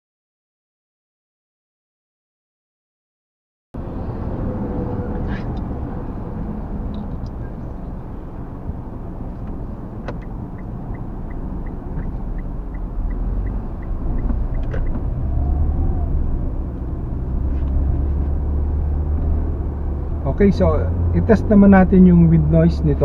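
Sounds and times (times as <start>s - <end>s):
road and wind rumble: 3.8s - 23.0s.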